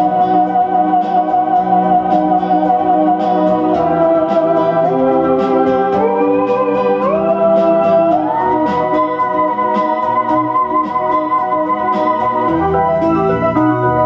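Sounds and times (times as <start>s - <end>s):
electronic backing track: 0.0s - 14.0s
steady ticking beat: 0.0s - 14.0s
theremin playing a slow melody: 0.0s - 14.0s.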